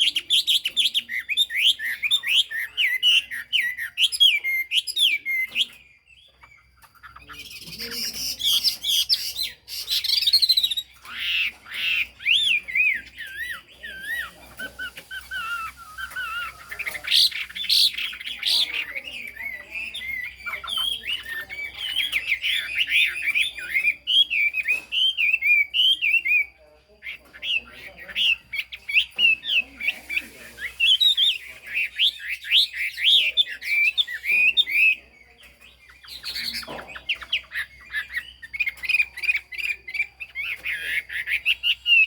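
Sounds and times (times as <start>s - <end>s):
songbird warbling and whistling: 0.0s - 42.0s.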